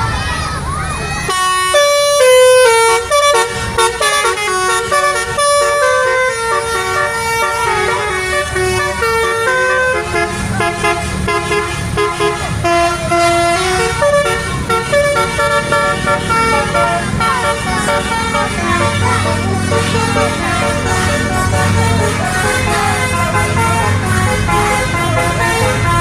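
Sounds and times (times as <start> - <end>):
bus horn playing a melody: 1.3 - 26.0.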